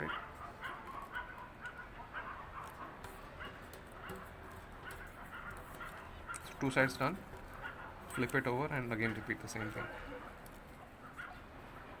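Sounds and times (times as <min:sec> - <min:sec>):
faint dogs barking and yipping: 0:00.0 - 0:12.0.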